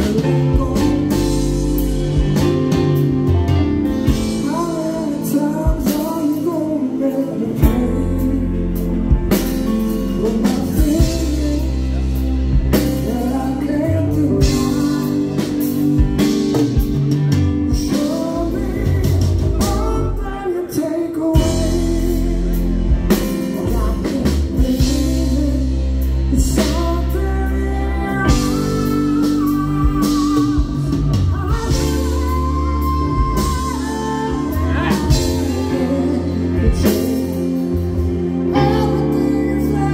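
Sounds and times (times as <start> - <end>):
keyboard: 0.0 - 39.9
man singing: 0.0 - 39.9
rock band playing: 0.0 - 39.9.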